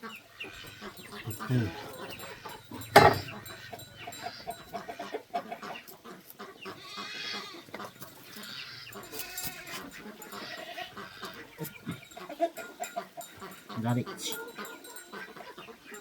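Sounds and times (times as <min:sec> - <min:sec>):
farm animals calling: 0:00.0 - 0:16.0.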